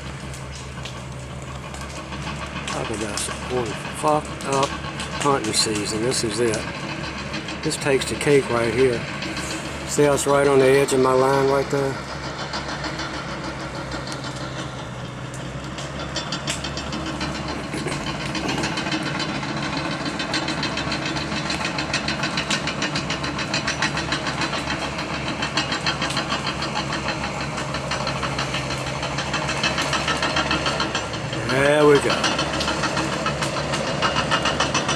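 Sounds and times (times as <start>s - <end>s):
diesel engine with rhythmic clatter: 0.0s - 34.9s.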